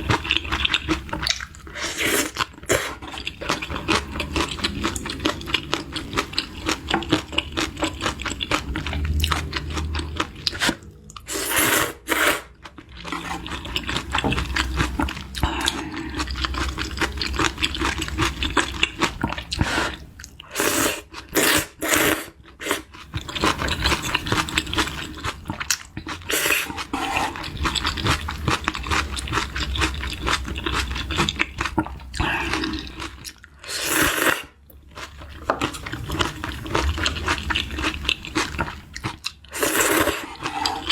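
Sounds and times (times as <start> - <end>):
wet chewing and crunching: 0.0 - 40.9.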